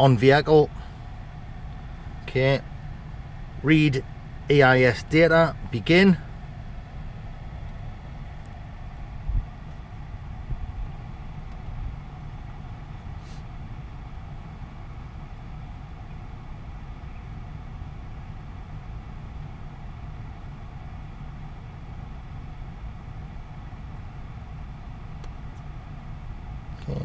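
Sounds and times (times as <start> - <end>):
faint hum: 0.0 - 27.0
vehicle rumble: 0.0 - 27.0.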